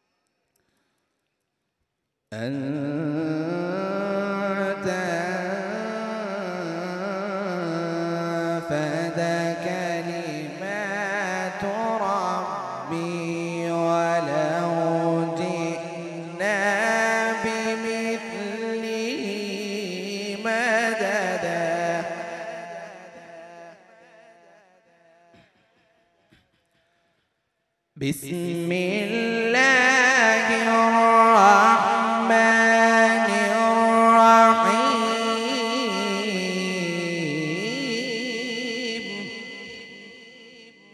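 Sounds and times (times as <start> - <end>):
man chanting melodically: 2.3 - 24.6, 28.0 - 40.7.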